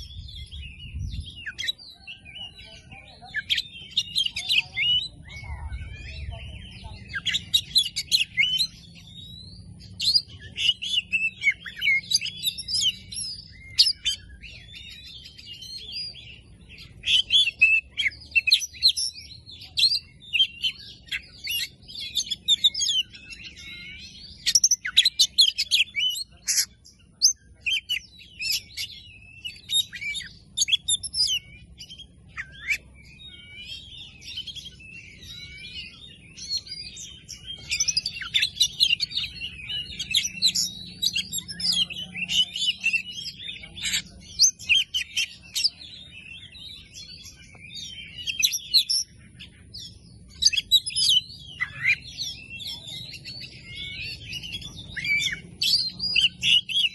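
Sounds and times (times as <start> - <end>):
bird singing whistles and chirps: 0.0 - 56.9.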